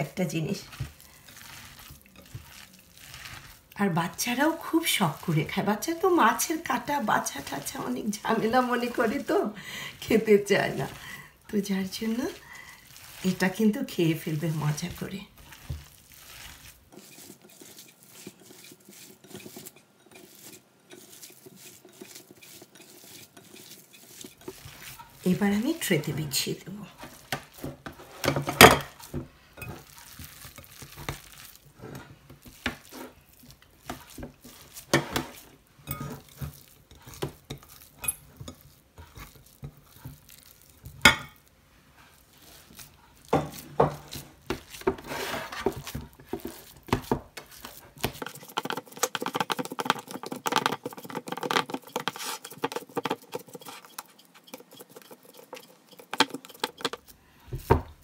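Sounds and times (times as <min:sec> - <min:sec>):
hands patting and scraping mixture: 0:00.4 - 0:09.4, 0:10.0 - 0:58.0.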